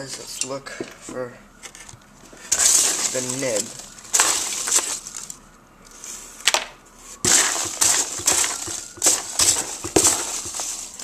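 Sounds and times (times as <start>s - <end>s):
packaging crinkling and rustling: 1.6s - 6.6s, 7.2s - 11.0s.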